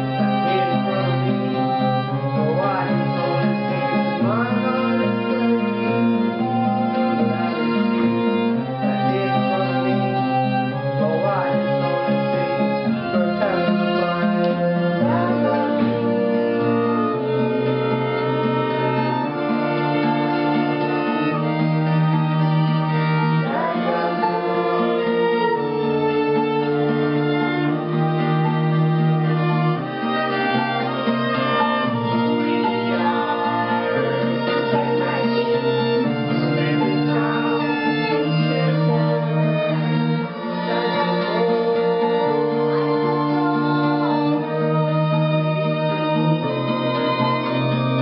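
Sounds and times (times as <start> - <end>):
cello: 0.0 - 48.0
violin: 0.0 - 48.0.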